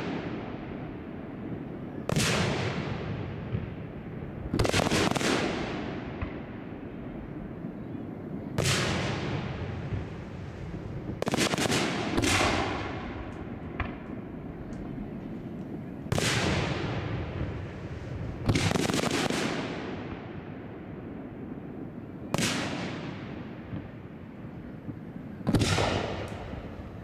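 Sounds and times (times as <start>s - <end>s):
firework booms with rolling echo: 0.0s - 27.0s.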